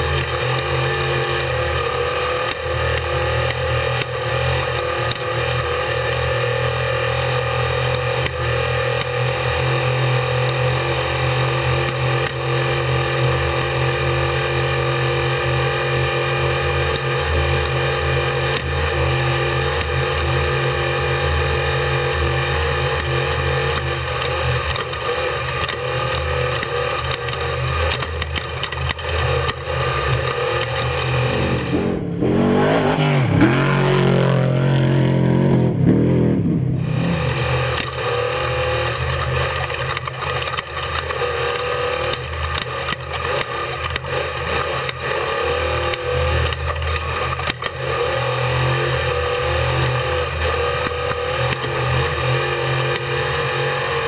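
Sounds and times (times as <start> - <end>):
truck engine running hard: 0.0 - 54.0.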